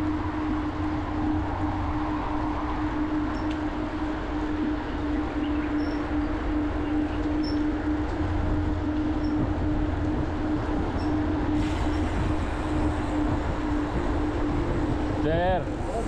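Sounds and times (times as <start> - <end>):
steady hum: 0.0 - 16.0
wind rumbling on microphone: 0.0 - 16.0.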